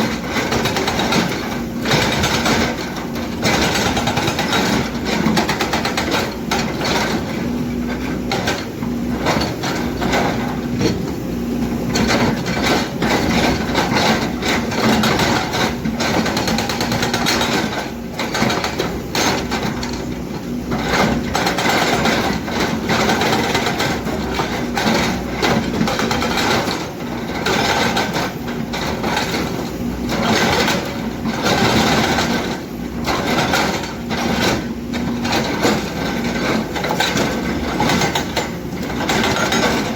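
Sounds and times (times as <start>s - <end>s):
hydraulic breaker hammering rock: 0.0s - 39.9s.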